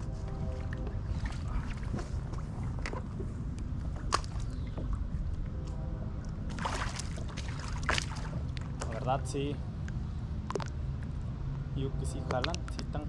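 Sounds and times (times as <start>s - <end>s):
water and wind rumble: 0.0s - 13.0s.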